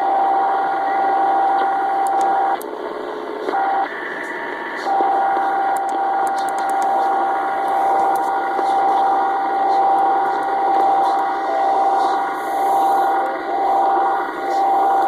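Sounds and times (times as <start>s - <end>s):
radio whistling tone: 0.0s - 2.6s, 3.4s - 15.0s
radio static hiss: 0.0s - 15.0s.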